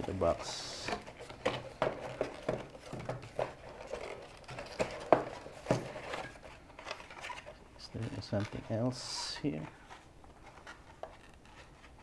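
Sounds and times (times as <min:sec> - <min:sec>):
hands rummaging through packaging: 0:00.0 - 0:12.0.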